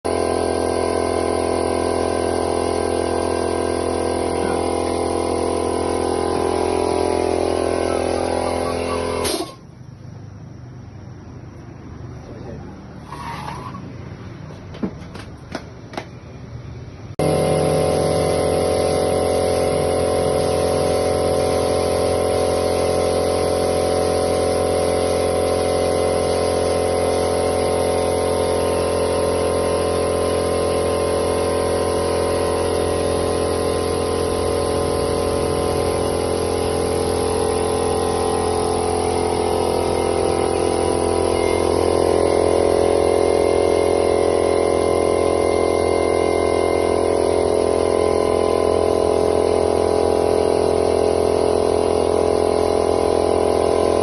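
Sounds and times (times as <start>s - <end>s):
electric machine with mains hum: 0.1s - 12.8s, 13.7s - 54.0s.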